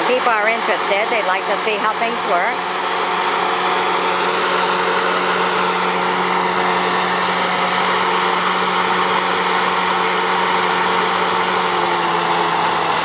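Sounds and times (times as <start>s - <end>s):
belt-driven machinery whirring: 0.0s - 13.0s
mill engine humming: 0.0s - 13.0s.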